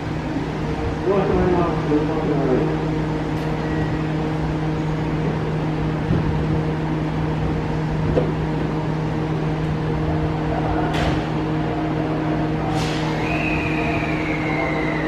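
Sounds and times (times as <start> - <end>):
train mechanical hum: 0.0 - 15.0.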